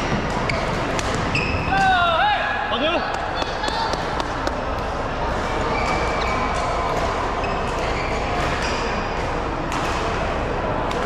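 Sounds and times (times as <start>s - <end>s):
court shoes squeaking: 0.0s - 1.8s, 3.3s - 11.0s
sports hall din: 0.0s - 11.0s.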